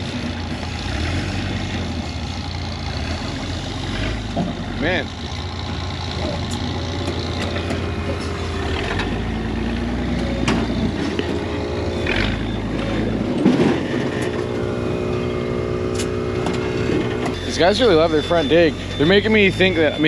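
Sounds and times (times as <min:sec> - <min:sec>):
buggy engine at low revs: 0:00.0 - 0:20.0.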